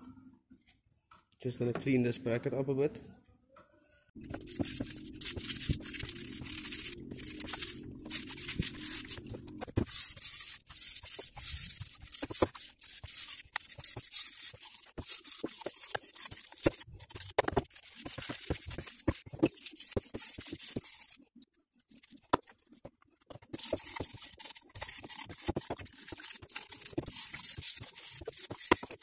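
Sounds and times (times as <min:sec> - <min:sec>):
stiff brush scrubbing metal: 0:04.2 - 0:21.2, 0:21.9 - 0:29.0.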